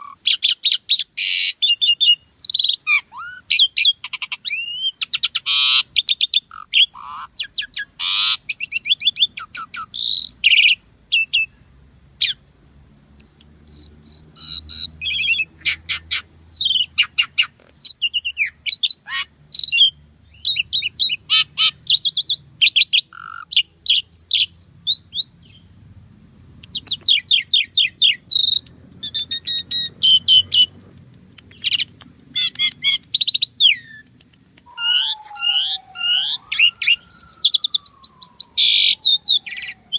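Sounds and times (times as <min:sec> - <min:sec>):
starling singing: 0:00.0 - 0:11.6, 0:13.2 - 0:25.7, 0:26.6 - 0:39.9.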